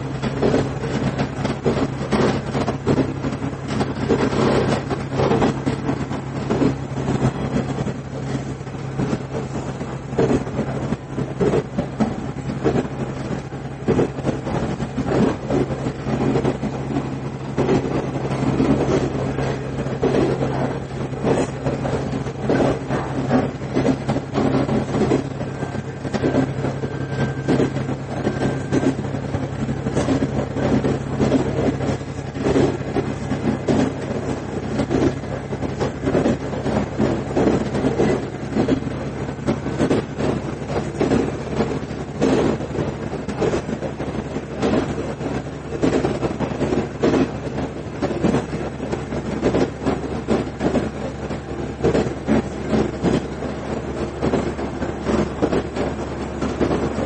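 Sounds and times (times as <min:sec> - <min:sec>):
diesel engine drone: 0:00.0 - 0:57.0
train wheels knocking on track: 0:00.0 - 0:57.0.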